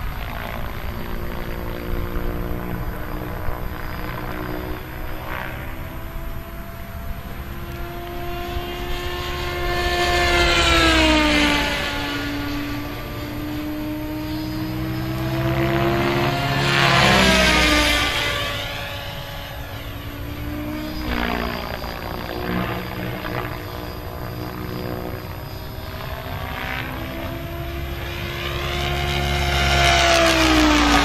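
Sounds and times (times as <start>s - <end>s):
model helicopter rotor whine: 0.0s - 31.0s.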